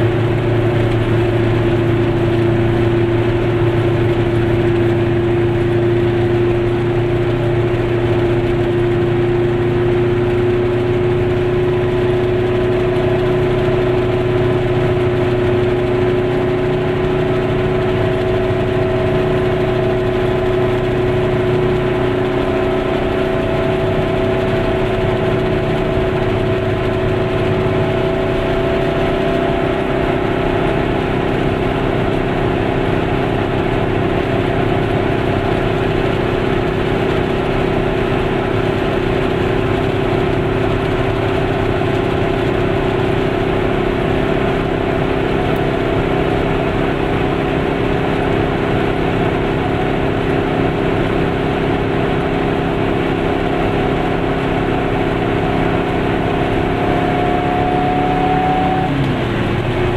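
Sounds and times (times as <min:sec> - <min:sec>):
small two-stroke engine running: 0:00.0 - 0:59.9.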